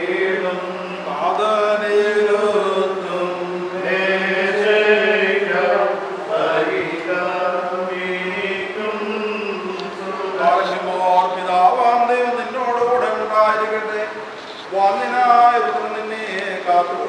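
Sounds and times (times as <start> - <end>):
man chanting a prayer: 0.0 - 17.0.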